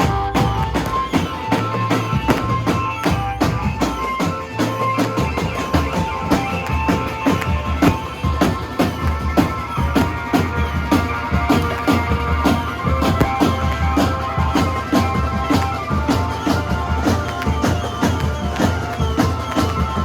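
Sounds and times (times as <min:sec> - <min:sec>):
driving drum beat: 0:00.0 - 0:20.0
melodic tones: 0:00.0 - 0:20.0.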